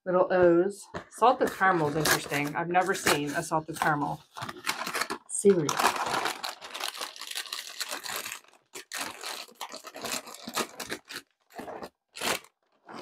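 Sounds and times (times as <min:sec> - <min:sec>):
plastic bag crinkling and tearing: 0:01.8 - 0:13.0.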